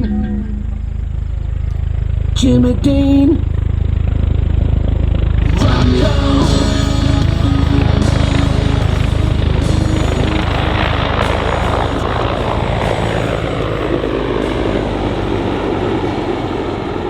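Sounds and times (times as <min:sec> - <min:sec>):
helicopter turbine whine: 0:00.0 - 0:17.0
helicopter rotor chop: 0:00.6 - 0:17.0.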